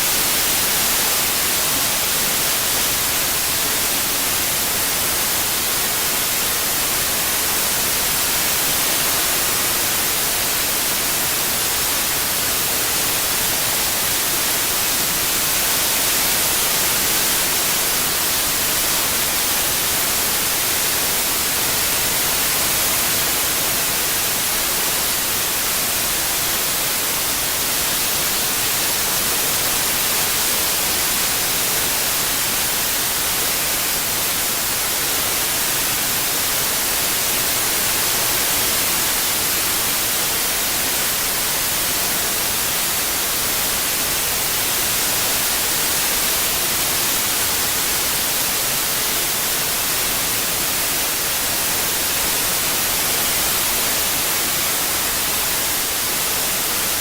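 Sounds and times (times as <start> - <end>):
white-noise hiss: 0.0 - 57.0.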